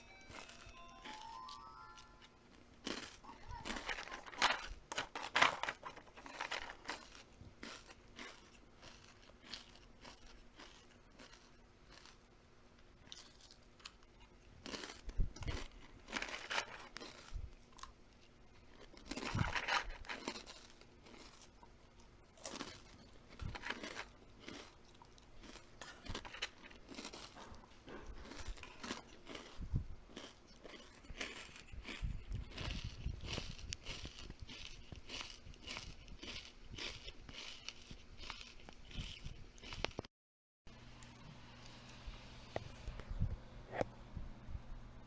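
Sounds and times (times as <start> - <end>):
crunchy food chewing: 0.0 - 40.1.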